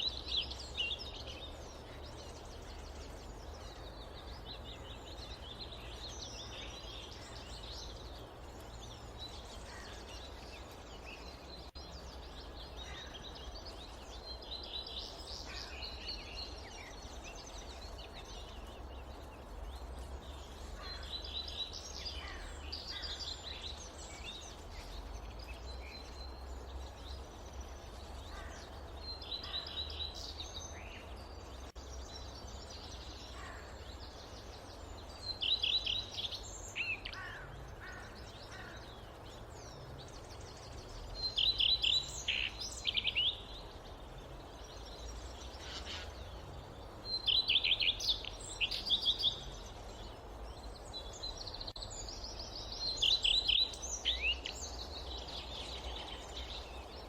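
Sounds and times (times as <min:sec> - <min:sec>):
birds calling and chirping: 0:00.0 - 0:57.0.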